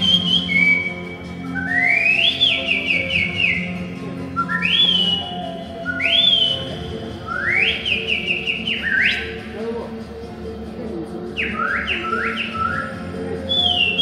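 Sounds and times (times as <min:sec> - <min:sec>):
whistled birdcall imitation: 0:00.0 - 0:09.5, 0:11.4 - 0:14.0
soft musical backing: 0:00.0 - 0:14.0.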